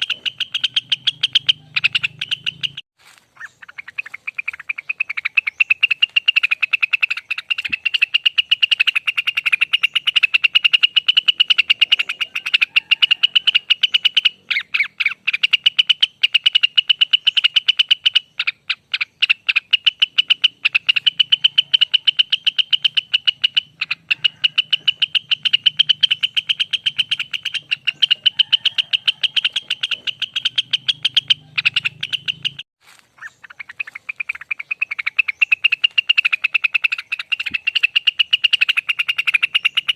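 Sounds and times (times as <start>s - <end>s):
bird singing rapid trill: 0.0s - 2.8s, 3.4s - 39.9s.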